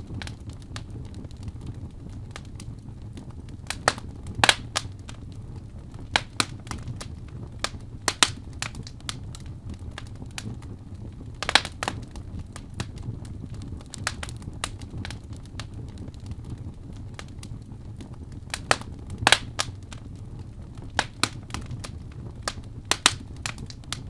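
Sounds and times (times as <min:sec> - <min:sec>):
fire crackling and popping: 0:00.0 - 0:24.0
low rumble of flame: 0:00.0 - 0:24.0.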